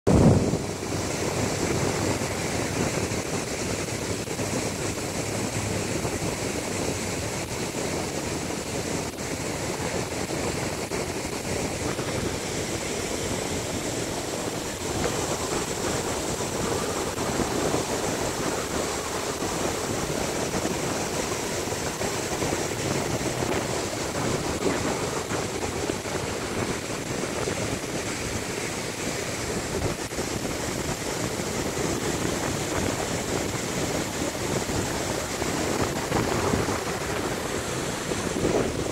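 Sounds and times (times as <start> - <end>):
ocean surf breaking: 0.1 - 38.9.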